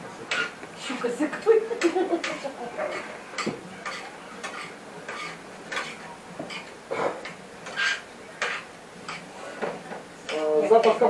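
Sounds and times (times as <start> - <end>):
cutlery clinking on plates: 0.3 - 0.5, 1.8 - 11.0.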